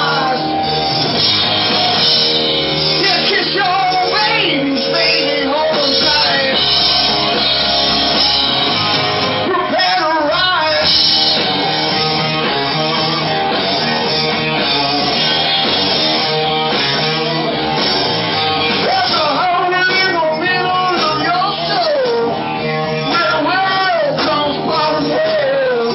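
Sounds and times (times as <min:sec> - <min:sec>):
person singing: 0:00.0 - 0:01.0, 0:02.9 - 0:15.9, 0:16.6 - 0:25.9
rock band playing: 0:00.0 - 0:25.9.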